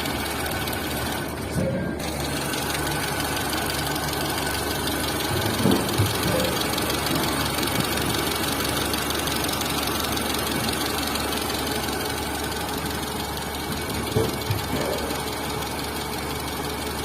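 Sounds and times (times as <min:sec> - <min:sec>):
car engine idling: 0:00.0 - 0:17.0
mechanical knocking: 0:02.1 - 0:16.0.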